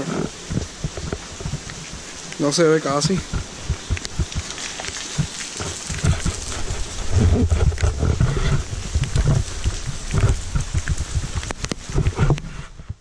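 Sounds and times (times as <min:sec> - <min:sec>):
falling rain hiss: 0:00.0 - 0:13.0
wind gusting against microphone: 0:00.0 - 0:13.0.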